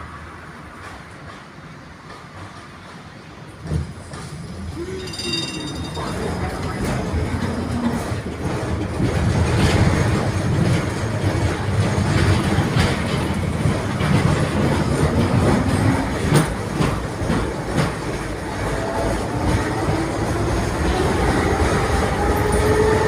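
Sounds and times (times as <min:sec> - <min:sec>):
tram wheels rumbling: 0:00.0 - 0:23.0
wheels clacking on rail joints: 0:00.8 - 0:23.0.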